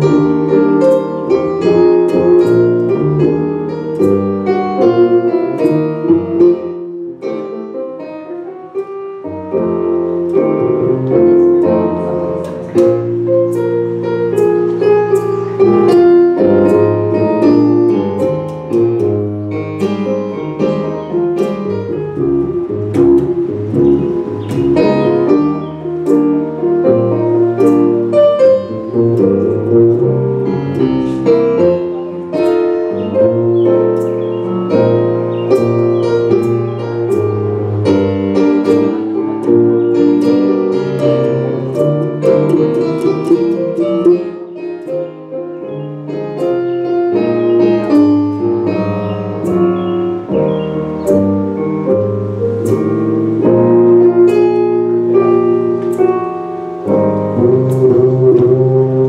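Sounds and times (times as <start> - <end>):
jazz piano solo: 0.0 - 59.0
plucked double bass: 0.0 - 59.0.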